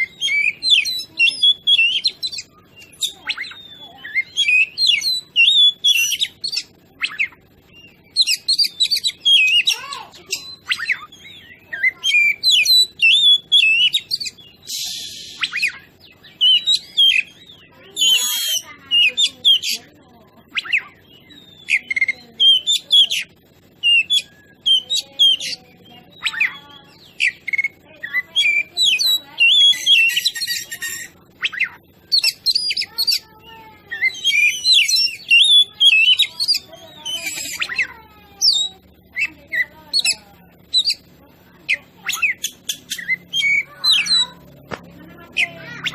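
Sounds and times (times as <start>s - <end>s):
harsh rasping bird notes: 0.0s - 45.9s
songbird singing: 0.0s - 45.9s.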